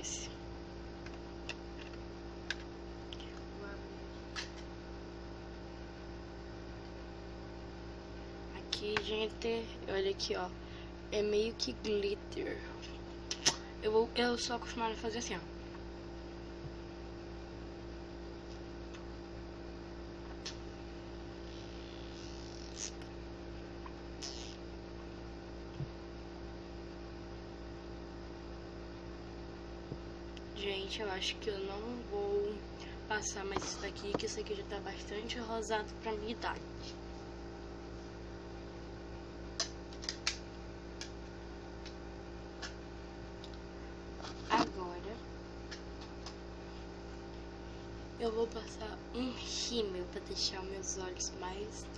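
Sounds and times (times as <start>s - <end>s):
low electrical hum and hiss: 0.0s - 51.9s.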